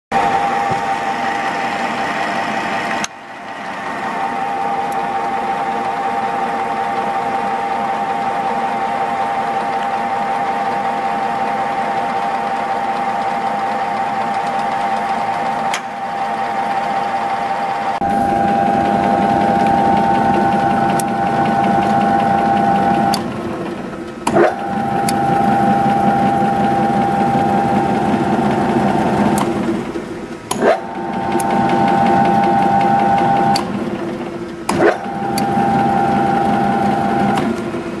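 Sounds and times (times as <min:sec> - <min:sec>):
drilling machine whine: 0:00.1 - 0:38.0.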